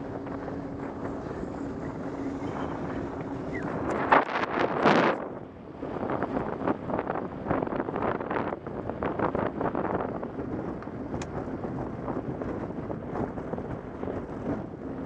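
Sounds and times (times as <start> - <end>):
wheels rolling on rough lane: 0.0 - 15.0
wind buffeting microphone: 0.0 - 15.0.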